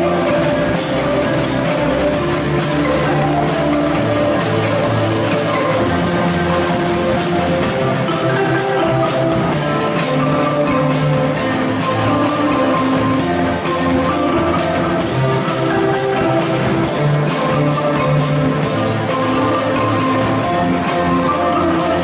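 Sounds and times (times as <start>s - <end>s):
marimba ensemble playing pop: 0.0s - 22.0s.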